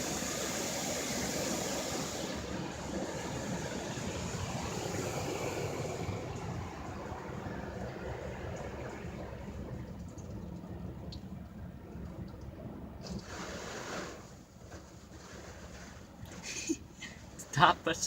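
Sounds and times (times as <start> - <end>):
car wash water spray: 0.0 - 18.0.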